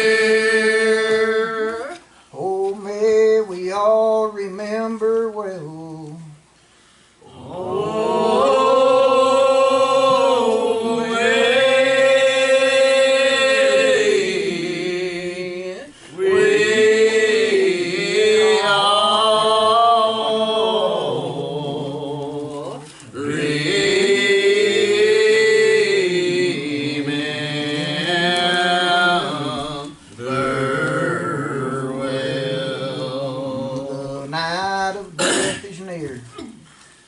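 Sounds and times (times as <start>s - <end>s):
congregation singing a hymn: 0.0s - 2.5s, 7.2s - 34.5s.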